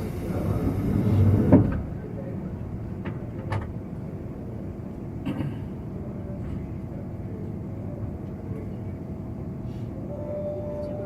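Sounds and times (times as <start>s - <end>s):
train cabin low rumble: 0.0s - 11.0s.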